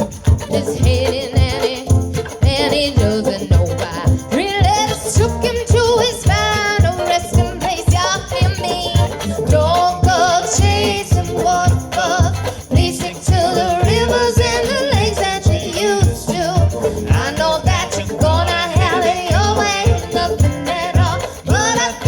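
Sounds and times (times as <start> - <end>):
bluegrass band playing: 0.0 - 22.0
low bass beat: 0.0 - 22.0
person singing: 0.0 - 22.0.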